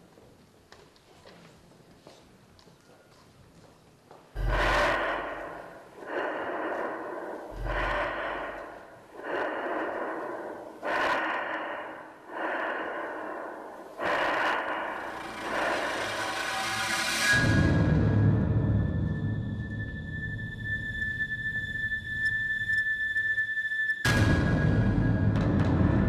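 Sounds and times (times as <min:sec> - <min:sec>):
heavy echoing breaths: 0:04.2 - 0:26.0.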